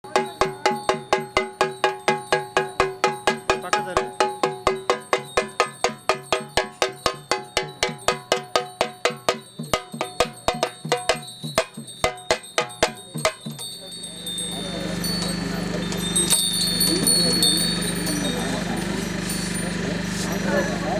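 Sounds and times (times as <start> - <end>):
metallic percussion beating: 0.0 - 20.9.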